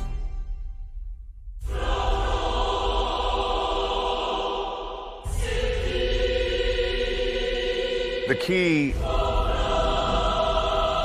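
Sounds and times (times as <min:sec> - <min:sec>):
choir singing held chords: 0:01.6 - 0:11.0.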